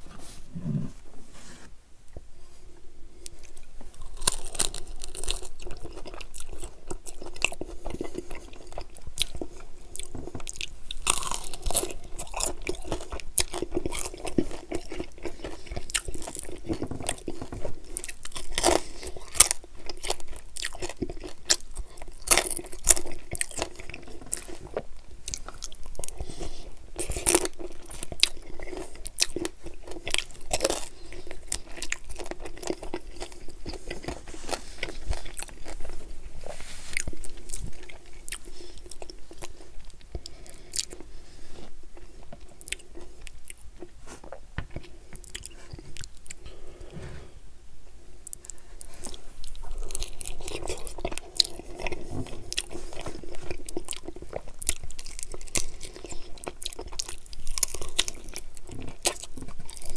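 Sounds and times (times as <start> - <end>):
chewing and crunching: 3.1 - 46.9, 48.2 - 59.9.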